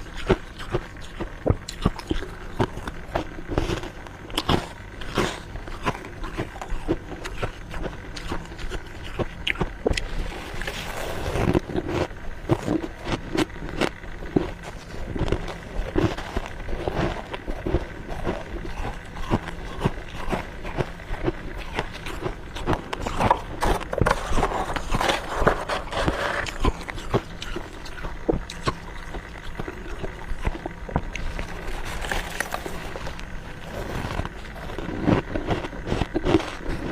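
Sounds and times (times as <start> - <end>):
crunching frost: 0.0 - 36.9.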